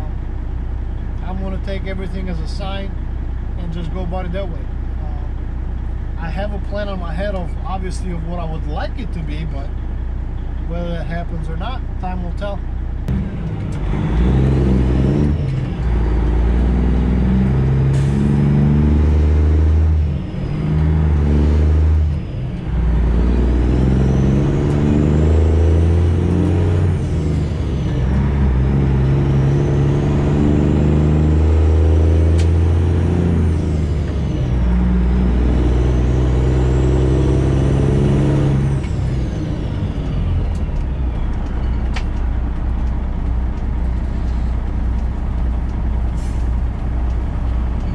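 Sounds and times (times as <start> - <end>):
truck engine accelerating through gears: 0.0 - 47.9.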